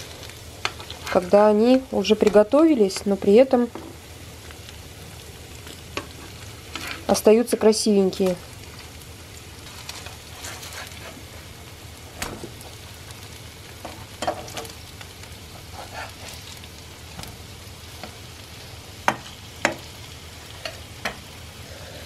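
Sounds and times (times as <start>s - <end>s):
pancakes sizzling in oil: 0.0s - 22.0s.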